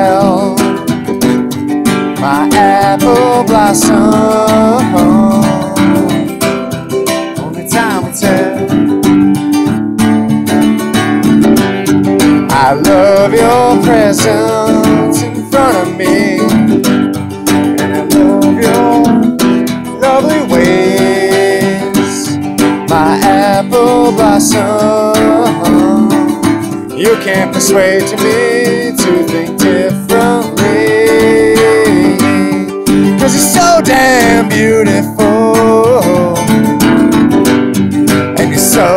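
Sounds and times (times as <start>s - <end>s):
man singing: 0.0s - 9.2s, 12.2s - 37.4s, 38.1s - 38.9s
strummed acoustic guitar: 0.0s - 38.9s.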